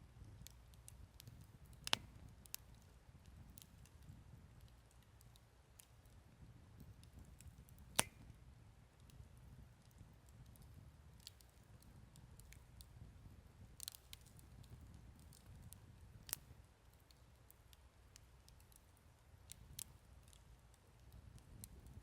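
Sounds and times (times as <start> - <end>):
campfire crackling: 0.2 - 22.0.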